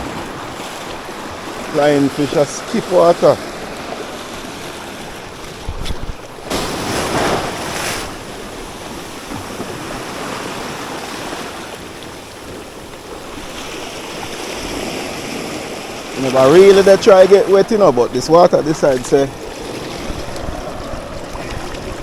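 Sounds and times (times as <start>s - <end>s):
sea waves washing against rocks: 0.0s - 22.0s
wind rumbling on microphone: 0.0s - 22.0s.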